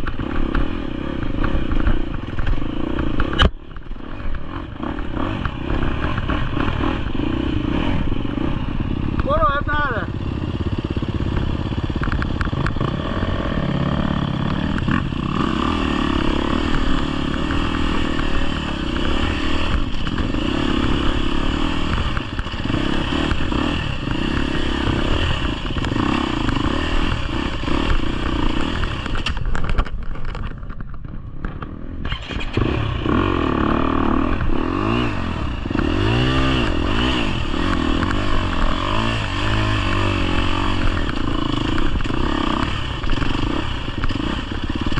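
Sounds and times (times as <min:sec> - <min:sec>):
dirt bike engine revving: 0:00.0 - 0:29.8, 0:31.6 - 0:44.9
bike rattling over rough ground: 0:00.0 - 0:44.9.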